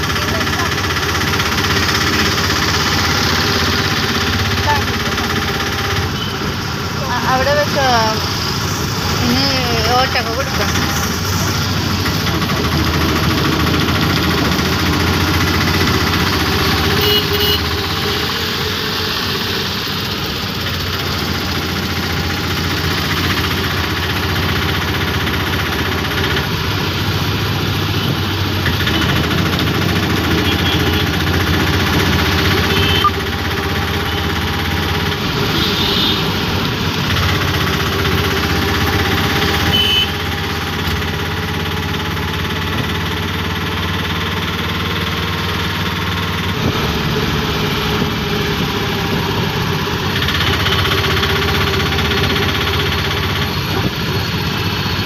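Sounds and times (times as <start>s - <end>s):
auto-rickshaw engine running: 0.0s - 55.0s.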